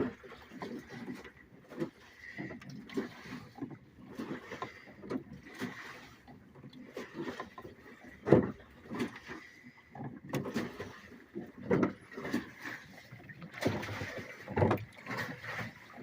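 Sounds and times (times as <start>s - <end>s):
clothes and water sloshing in drum: 0.0s - 16.0s
knocks and splashes: 0.0s - 16.0s.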